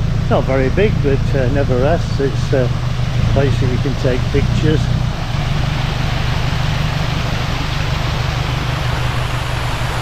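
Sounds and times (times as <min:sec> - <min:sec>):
waterfall splashing: 0:01.2 - 0:10.0.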